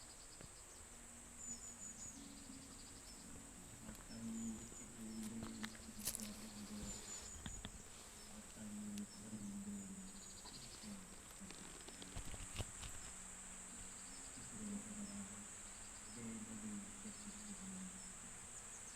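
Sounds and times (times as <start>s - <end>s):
distant monotone prayer chant: 0.0s - 18.9s
insects chirring: 0.0s - 18.9s.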